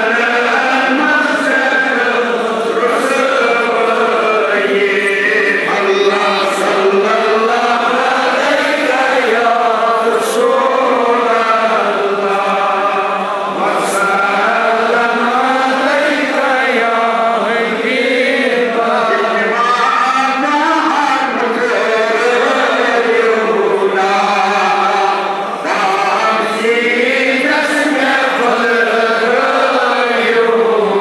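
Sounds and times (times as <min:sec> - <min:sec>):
men chanting together: 0:00.0 - 0:31.0.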